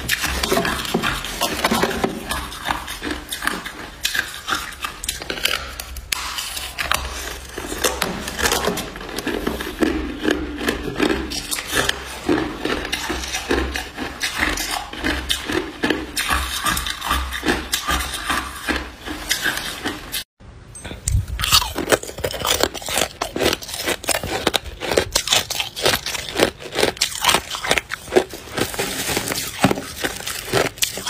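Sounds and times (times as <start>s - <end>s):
ice crunching being chewed: 0.0s - 20.3s, 21.0s - 31.0s.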